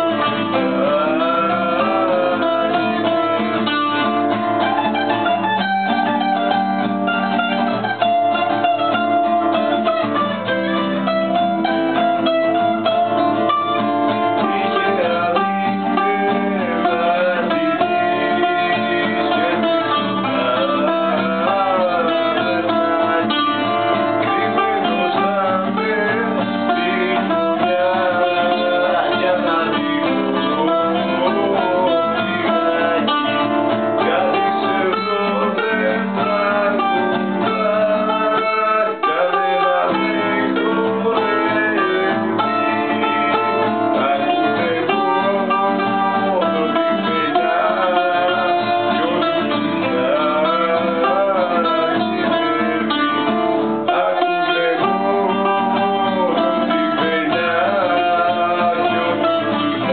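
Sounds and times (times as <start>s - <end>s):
folk music on plucked strings: 0.0s - 59.9s.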